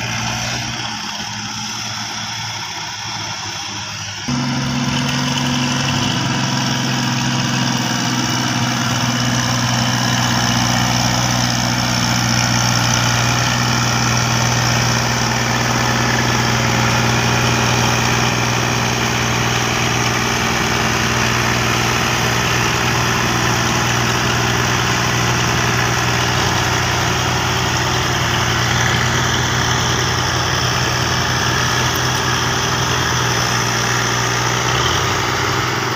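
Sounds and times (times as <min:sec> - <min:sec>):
diesel tractor engine running: 0:00.0 - 0:35.9.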